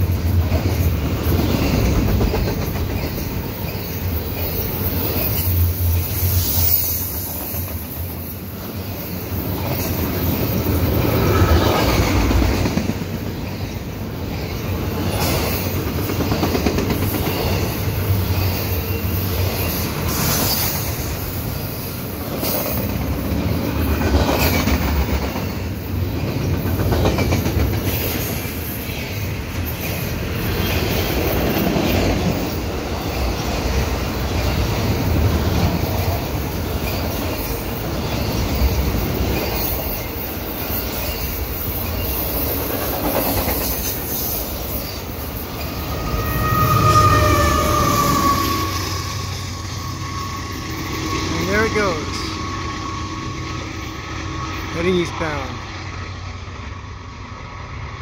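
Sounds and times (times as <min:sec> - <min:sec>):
train wheels rattling over rails: 0:00.0 - 0:54.8
wheels squealing: 0:00.7 - 0:12.3, 0:13.4 - 0:54.8.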